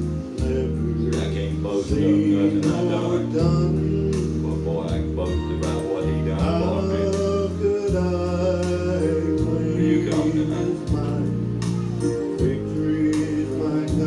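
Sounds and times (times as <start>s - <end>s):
instrumental accompaniment: 0.0s - 14.0s
men singing gospel song: 0.0s - 14.0s.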